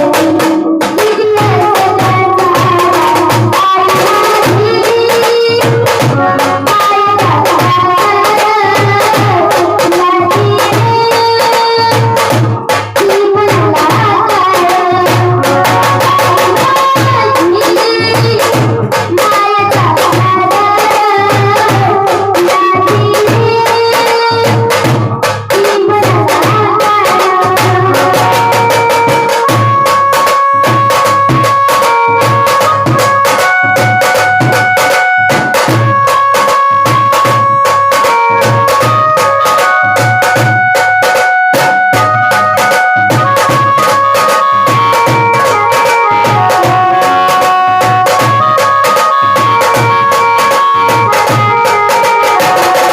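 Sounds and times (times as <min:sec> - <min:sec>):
music with drum beat and melody: 0:00.0 - 0:52.9.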